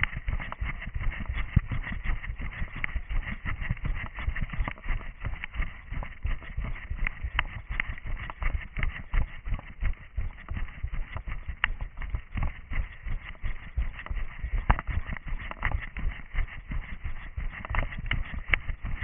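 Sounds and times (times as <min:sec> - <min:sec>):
running footsteps on forest ground: 0:00.0 - 0:19.0.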